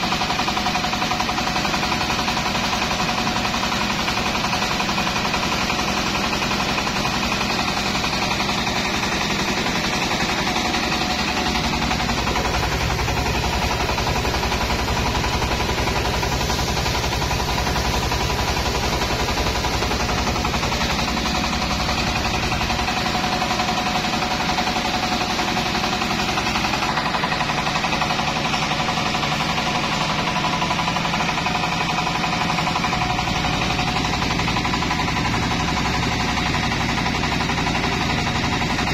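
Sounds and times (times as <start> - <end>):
machine steady hum: 0.0 - 38.9
rice mill clattering: 0.0 - 38.9.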